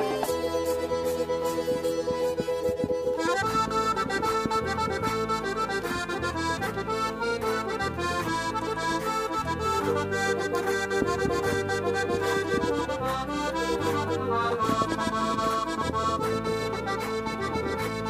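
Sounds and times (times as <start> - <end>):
instrumental folk music: 0.0 - 18.0.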